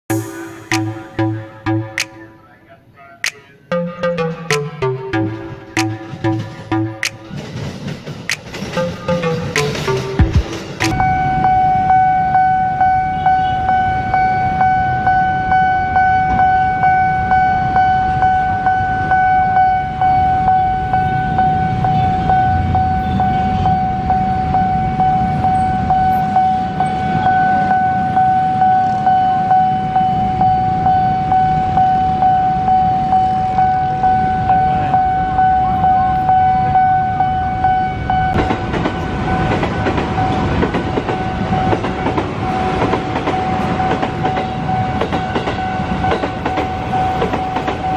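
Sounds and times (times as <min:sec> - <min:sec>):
electric train approaching: 0:00.1 - 0:02.5, 0:03.7 - 0:12.9, 0:13.6 - 0:47.9.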